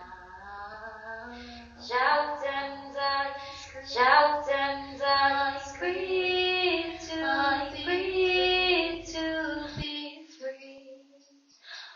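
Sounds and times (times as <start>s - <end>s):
low background hum: 0.0s - 11.9s.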